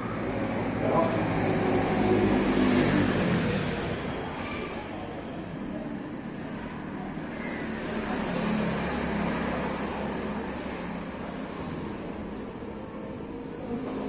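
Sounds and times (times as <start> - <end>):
vehicle engine and traffic noise: 0.0 - 14.0.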